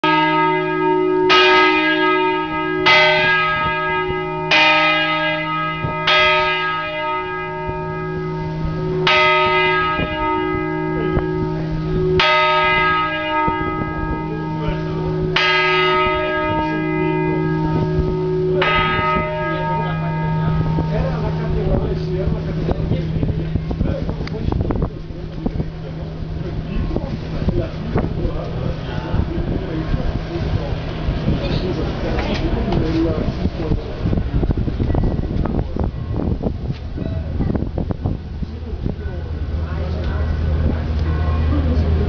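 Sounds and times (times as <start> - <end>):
large church bell ringing: 0.0 - 36.6, 37.3 - 42.0
low bell hum: 0.0 - 36.6.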